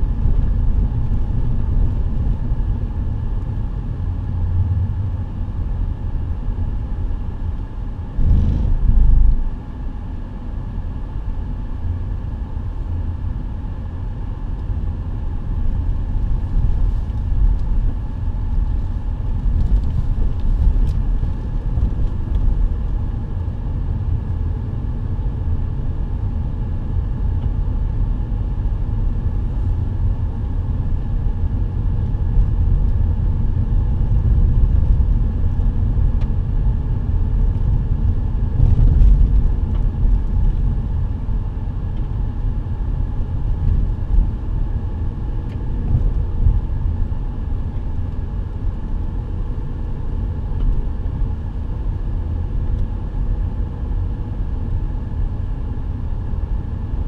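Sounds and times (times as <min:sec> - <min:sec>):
car driving on dirt road: 0:00.0 - 0:55.8.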